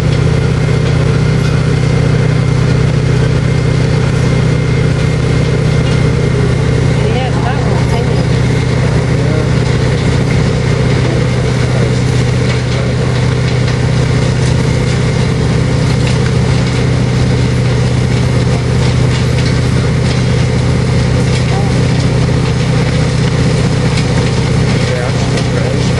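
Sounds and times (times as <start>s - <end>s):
train engine idling: 0.0s - 25.9s.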